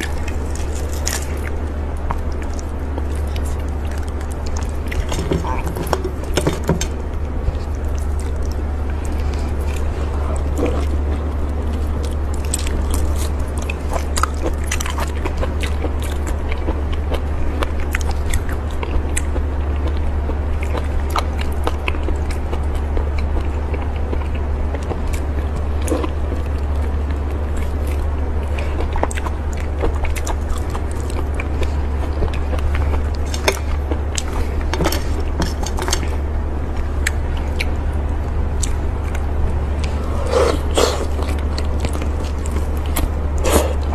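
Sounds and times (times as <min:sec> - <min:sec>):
low hum: 0:00.0 - 0:43.9
person chewing seafood: 0:00.0 - 0:43.9.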